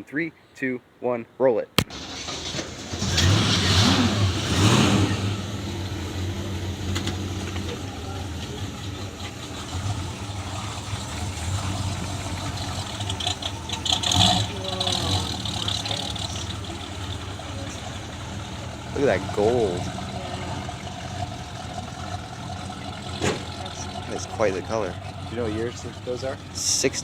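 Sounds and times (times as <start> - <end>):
car engine idling and revving: 1.8 - 27.0.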